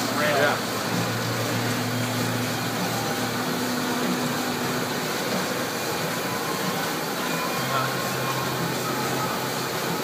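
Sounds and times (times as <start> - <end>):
printing press running: 0.0 - 10.0.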